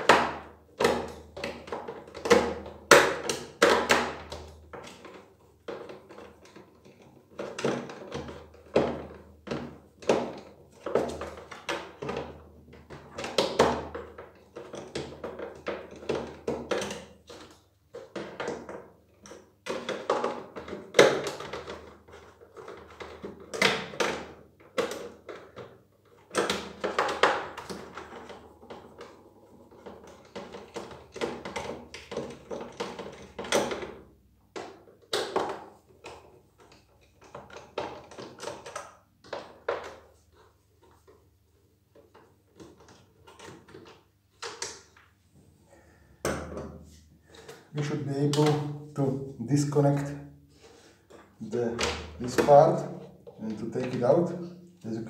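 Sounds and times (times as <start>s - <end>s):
plastic knocks and clicks: 0.0s - 41.2s, 41.9s - 45.2s, 46.2s - 55.0s.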